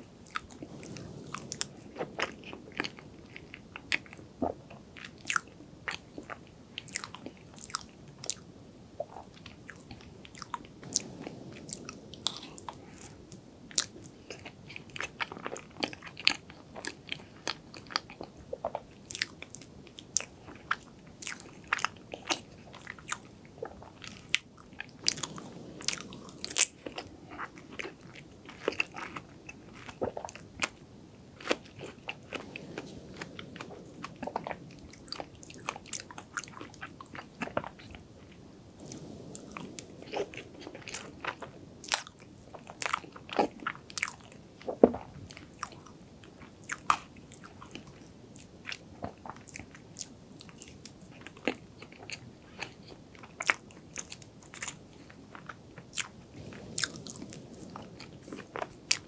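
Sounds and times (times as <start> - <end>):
person chewing cake: 0.2 - 8.4, 9.0 - 30.8, 31.4 - 59.0.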